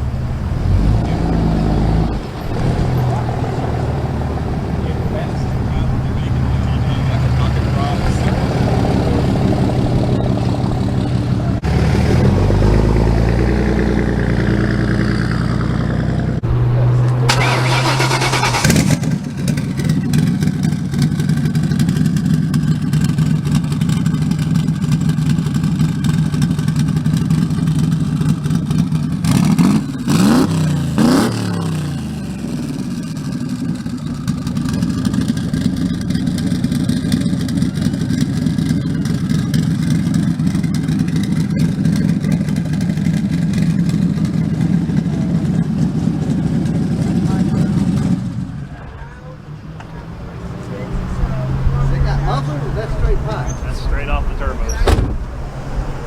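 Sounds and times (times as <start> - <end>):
car engine idling: 0.0 - 56.0
car engine revving: 0.0 - 56.0.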